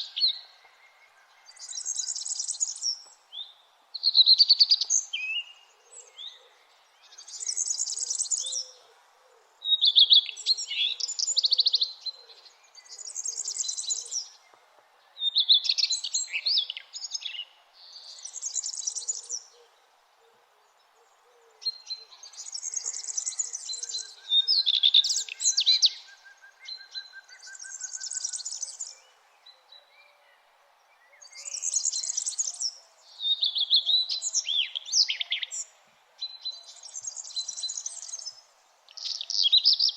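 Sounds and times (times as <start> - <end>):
faint background noise: 0.0 - 39.9
songbird chirping and trilling: 0.0 - 39.9.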